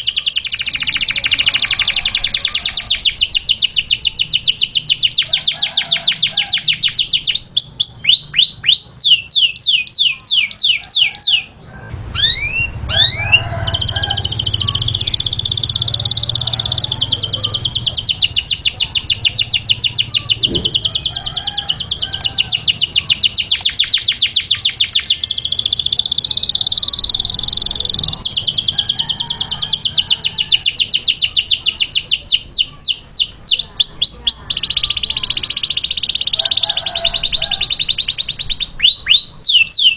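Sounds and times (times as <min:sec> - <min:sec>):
canary singing trilled rolls: 0:00.0 - 0:39.9.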